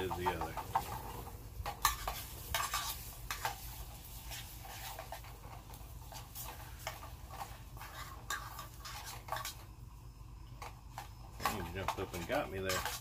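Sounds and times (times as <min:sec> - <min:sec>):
food crackling and popping: 0:00.0 - 0:13.0
stove low rumble: 0:00.0 - 0:13.0.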